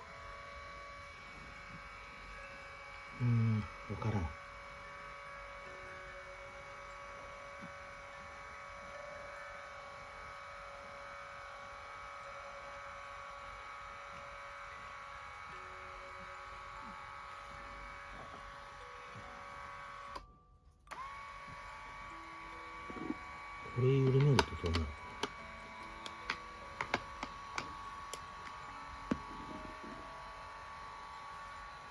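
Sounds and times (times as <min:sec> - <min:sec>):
massage motor buzzing whine: 0:00.0 - 0:31.9.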